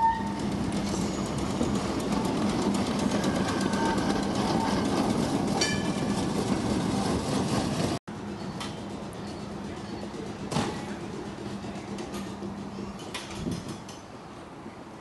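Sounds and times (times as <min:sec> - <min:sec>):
streetcar wheels clattering on rails: 0:00.0 - 0:14.8.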